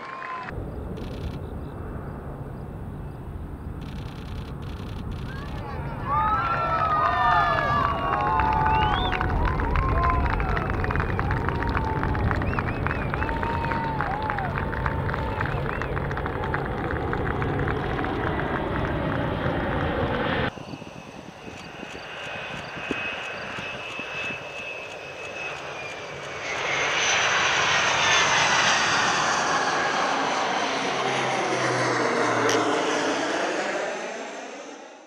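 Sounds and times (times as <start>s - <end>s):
jet engine whining: 0.0s - 35.0s.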